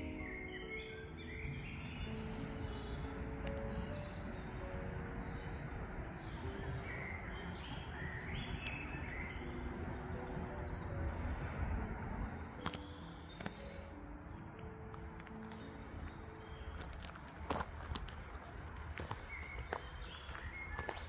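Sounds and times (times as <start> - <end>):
birds singing and chirping: 0.0 - 21.0.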